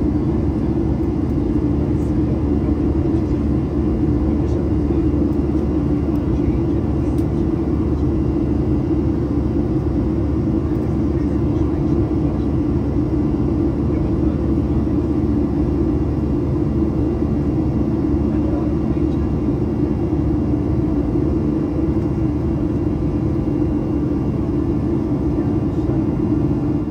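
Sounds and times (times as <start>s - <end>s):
jet engines droning in cabin: 0.0s - 26.9s.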